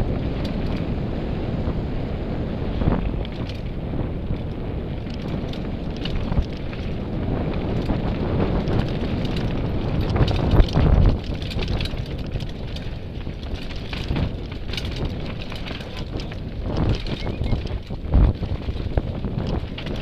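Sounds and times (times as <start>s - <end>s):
bike rattling over bumps: 0.0s - 20.0s
wind buffeting microphone: 0.0s - 20.0s
tyres rolling over dirt and stones: 2.9s - 20.0s.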